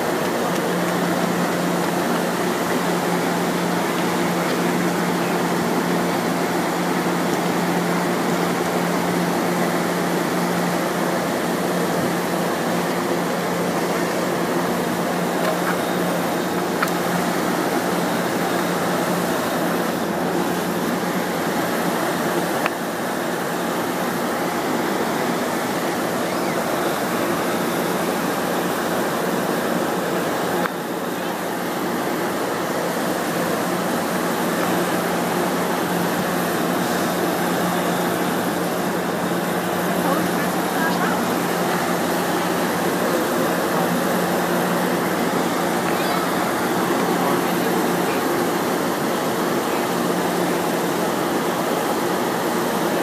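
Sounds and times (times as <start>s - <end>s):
air conditioning fan hum: 0.0s - 53.0s.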